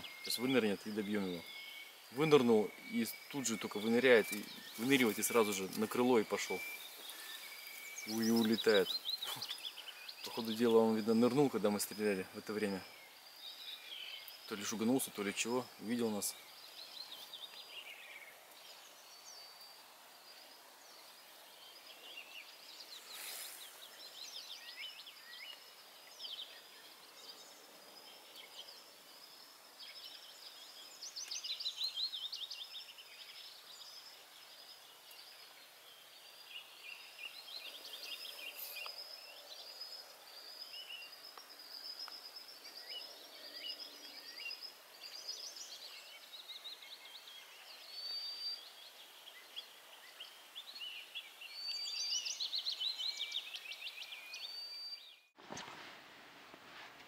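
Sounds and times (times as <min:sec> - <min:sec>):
songbirds chirping and trilling: 0:00.0 - 0:55.4
steady outdoor hiss: 0:00.0 - 0:57.0.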